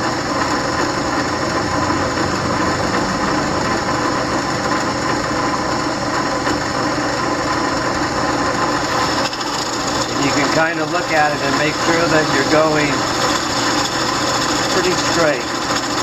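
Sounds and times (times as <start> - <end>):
drill press whirring: 0.0 - 16.0.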